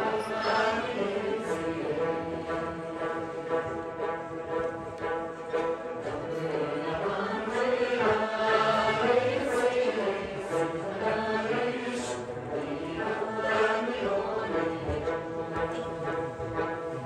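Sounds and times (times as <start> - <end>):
group singing in unison: 0.0 - 17.0.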